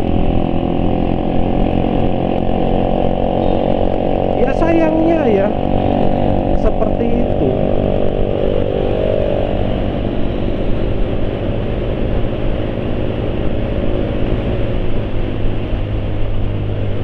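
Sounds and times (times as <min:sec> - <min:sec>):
vehicle engine running steadily: 0:00.0 - 0:17.0.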